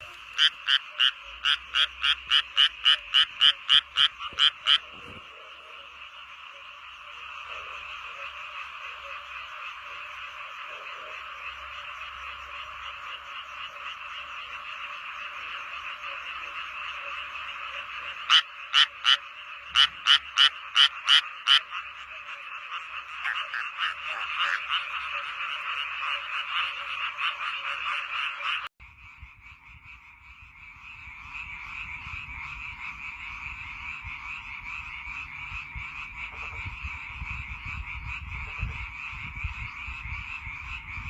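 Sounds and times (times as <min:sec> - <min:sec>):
frog loud croaks: 0:00.0 - 0:41.0
frogs chorus calling: 0:00.0 - 0:41.0.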